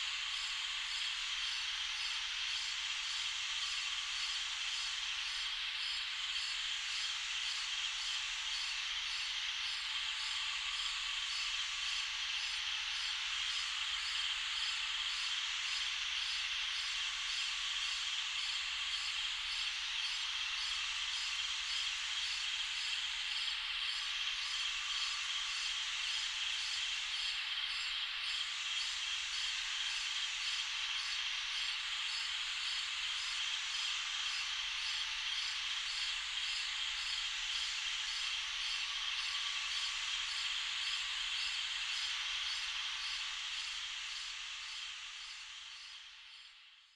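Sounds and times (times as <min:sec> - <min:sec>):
crickets chirping at night: 0:00.0 - 0:46.9.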